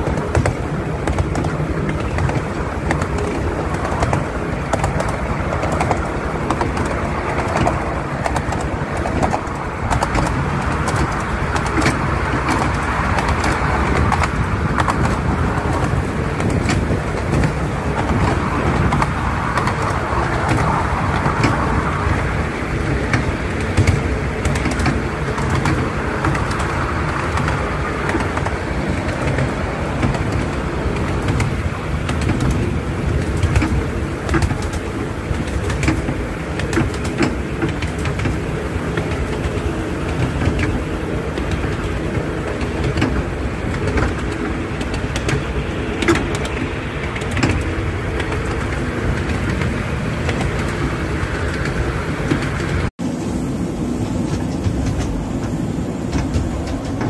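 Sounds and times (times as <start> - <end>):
steam locomotive working: 0.0 - 57.0
train wheels on rails: 0.0 - 57.0.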